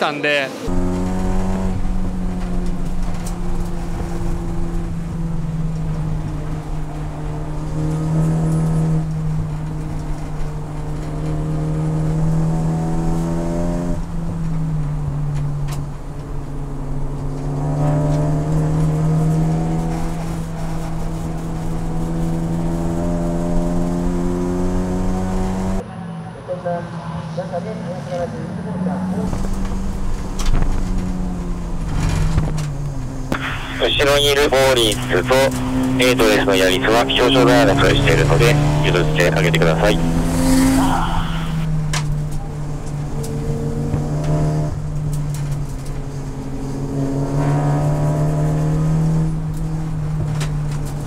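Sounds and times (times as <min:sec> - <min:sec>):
race car engine at high revs: 0:00.0 - 0:25.8, 0:28.3 - 0:51.0.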